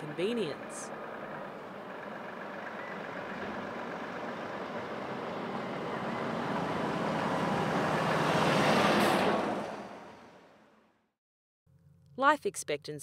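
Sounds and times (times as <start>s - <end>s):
truck driving past: 0.0s - 11.2s.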